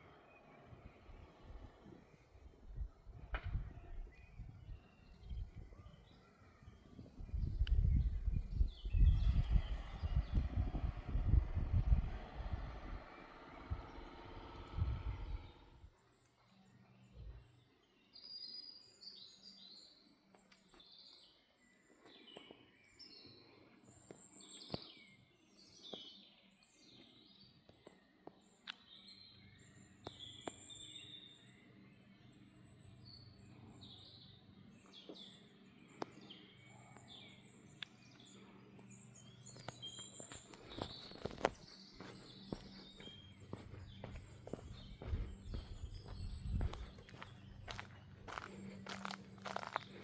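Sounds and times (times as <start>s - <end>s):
faint low hum: 0.0s - 18.0s, 27.4s - 50.0s
songbirds chirping: 0.0s - 50.0s.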